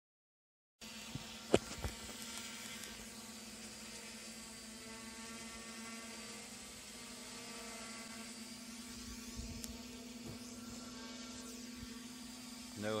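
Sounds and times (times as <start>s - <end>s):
quadcopter motors humming: 0.8s - 13.0s.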